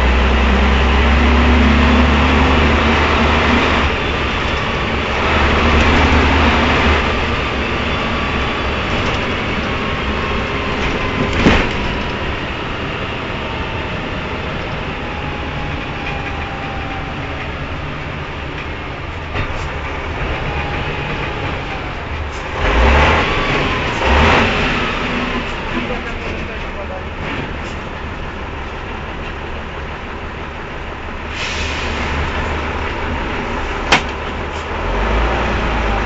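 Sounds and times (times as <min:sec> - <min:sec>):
diesel engine running in cab: 0:00.0 - 0:36.0.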